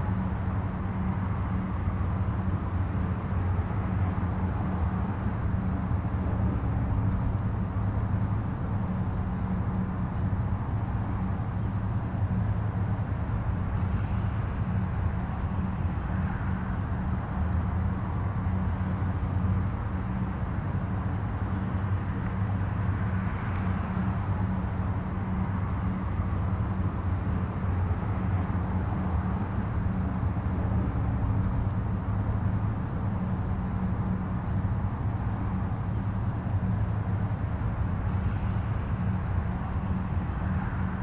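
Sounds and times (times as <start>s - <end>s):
distant highway traffic rumble: 0.0s - 41.0s.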